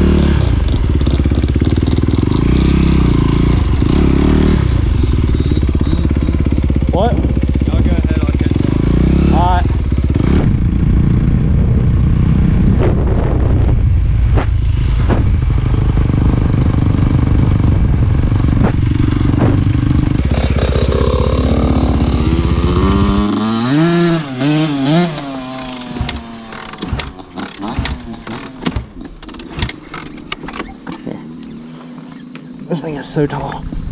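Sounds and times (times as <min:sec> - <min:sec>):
dirt bike engine revving: 0:00.0 - 0:30.1
dirt bike engine running: 0:00.0 - 0:30.3.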